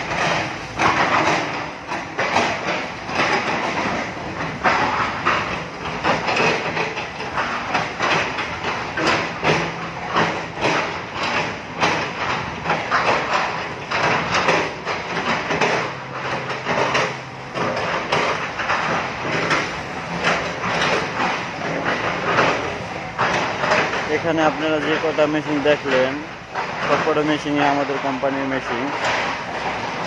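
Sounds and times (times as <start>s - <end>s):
metallic clanks and knocks: 0.0s - 30.0s.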